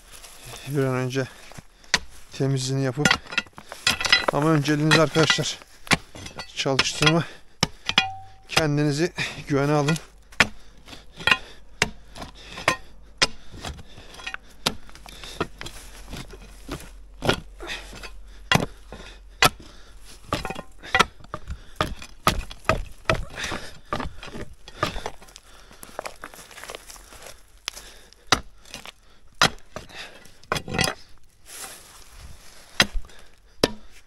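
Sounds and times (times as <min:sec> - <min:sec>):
digging tool striking rock: 0:01.9 - 0:27.1, 0:27.7 - 0:31.2, 0:32.7 - 0:34.0.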